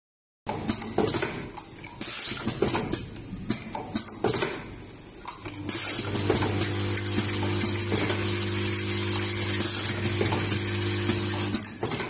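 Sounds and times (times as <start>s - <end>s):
machine clicks and knocks: 0.5s - 8.3s, 9.2s - 12.0s.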